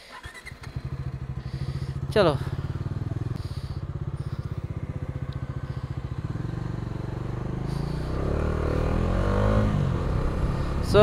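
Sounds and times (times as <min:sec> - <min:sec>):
motorcycle engine idling: 0:00.1 - 0:11.0
motorcycle accelerating: 0:00.2 - 0:11.0.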